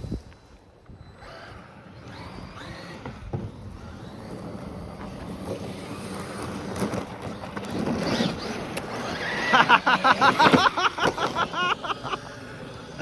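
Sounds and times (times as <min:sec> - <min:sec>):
drivetrain and tyre noise: 0:00.0 - 0:13.0
electric motor whining: 0:00.0 - 0:13.0.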